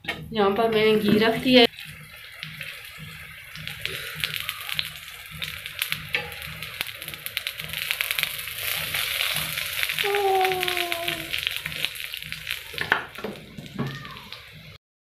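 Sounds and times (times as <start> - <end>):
ghee sizzling and popping: 0.0 - 14.8.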